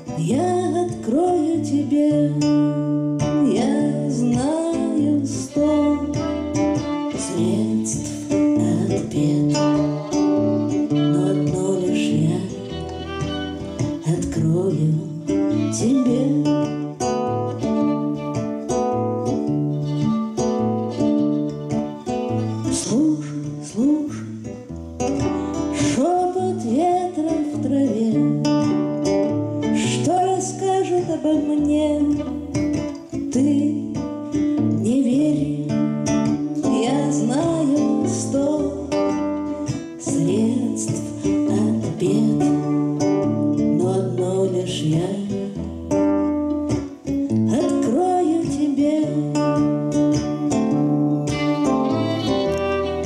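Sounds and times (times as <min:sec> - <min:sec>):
woman singing: 0:00.0 - 0:18.4, 0:22.3 - 0:53.0
violin playing blues: 0:00.0 - 0:53.0.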